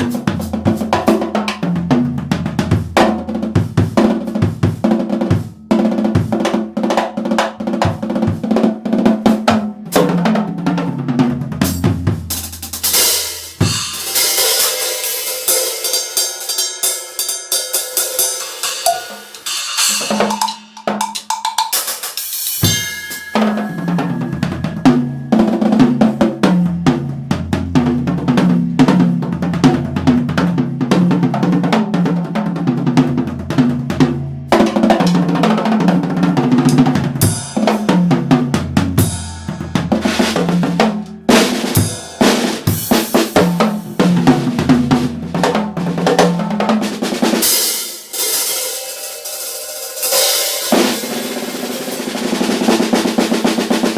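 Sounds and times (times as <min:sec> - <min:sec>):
drum kit played fast: 0:00.0 - 0:53.9.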